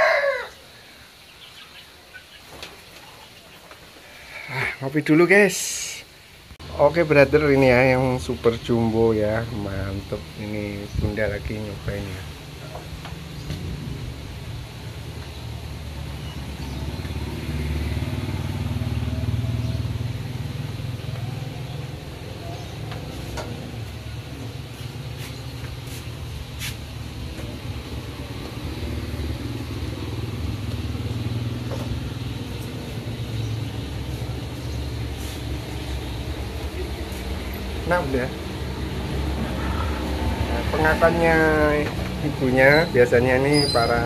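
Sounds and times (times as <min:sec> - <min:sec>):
vehicles passing by: 0:00.0 - 0:44.0.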